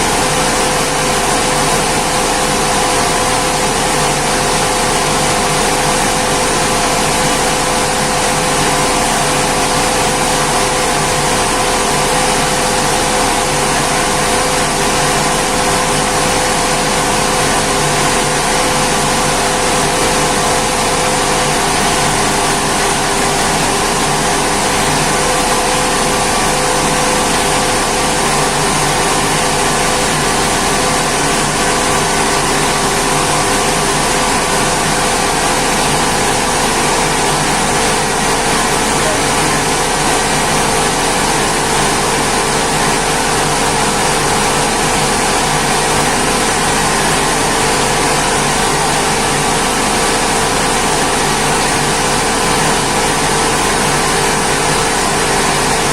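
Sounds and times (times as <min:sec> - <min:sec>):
rice mill machine running: 0:00.0 - 0:55.9.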